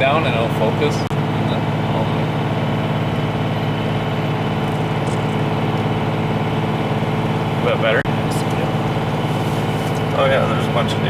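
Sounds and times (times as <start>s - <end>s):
diesel engine drone: 0.0s - 11.0s
road noise: 0.0s - 11.0s.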